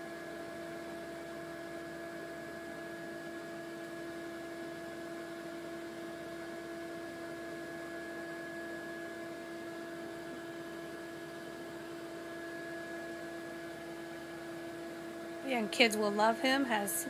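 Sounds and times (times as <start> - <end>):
blower fan humming: 0.0 - 17.0.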